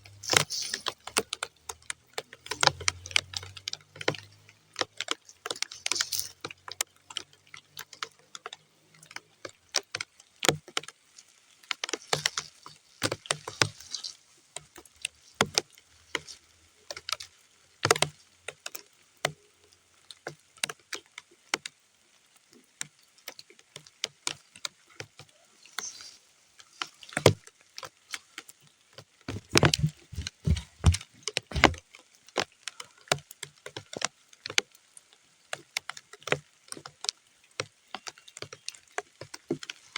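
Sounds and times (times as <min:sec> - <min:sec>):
raindrops on muddy ground: 0:00.0 - 0:39.9.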